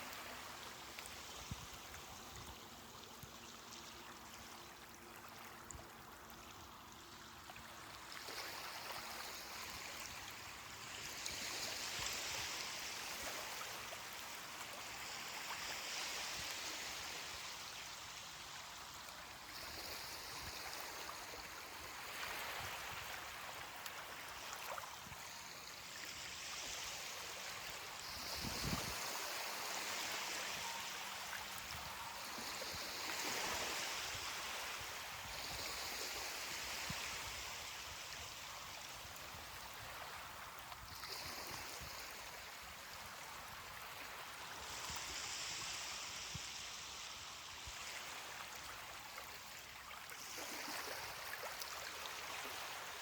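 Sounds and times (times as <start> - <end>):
waves washing onto a beach: 0.0 - 53.0.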